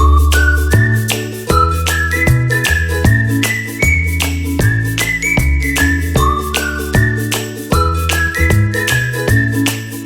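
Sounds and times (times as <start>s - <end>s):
upbeat music with whistle melody: 0.0s - 10.0s.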